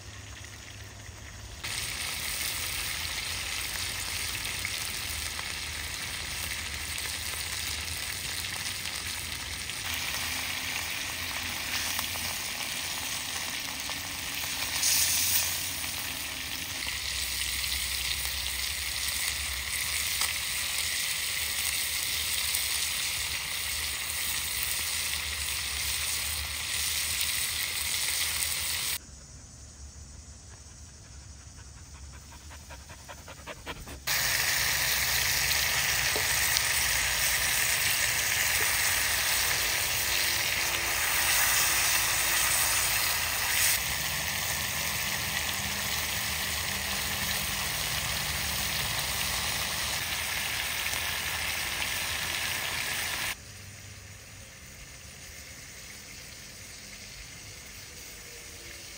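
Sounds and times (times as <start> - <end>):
food frying with sizzling hiss: 0.0 - 29.0, 32.4 - 58.9.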